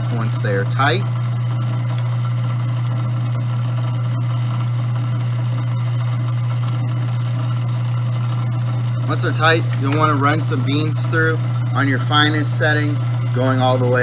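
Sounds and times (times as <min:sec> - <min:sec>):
coffee grinder motor hum: 0:00.0 - 0:14.0.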